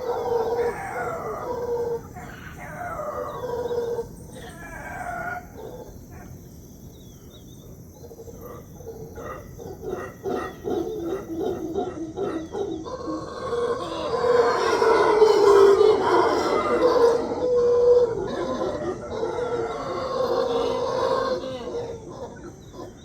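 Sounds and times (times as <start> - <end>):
howler monkeys calling: 0.0 - 23.0.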